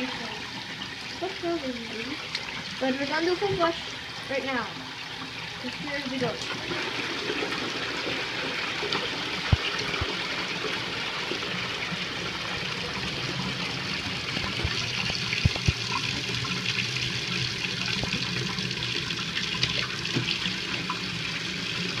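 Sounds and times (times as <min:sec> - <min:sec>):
toilet flush water rushing: 0:00.0 - 0:22.0.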